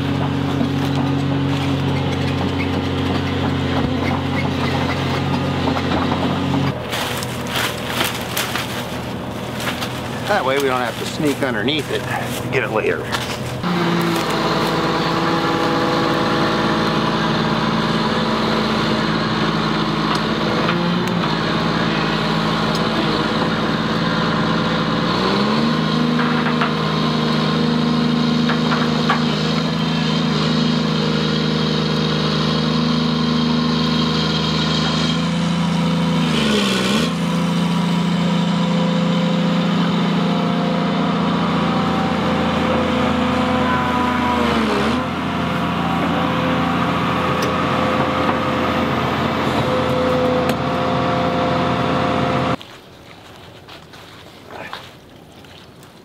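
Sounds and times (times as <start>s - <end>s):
excavator diesel engine running: 0.0s - 52.6s.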